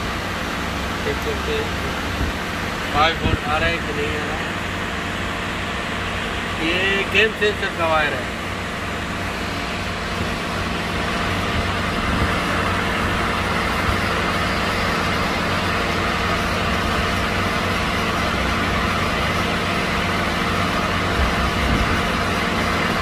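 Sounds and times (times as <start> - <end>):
machinery humming: 0.0 - 23.0.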